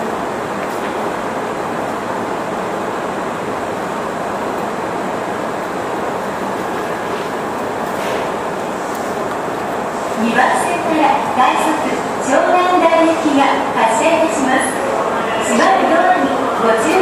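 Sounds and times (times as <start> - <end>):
train car background noise: 0.0 - 17.0.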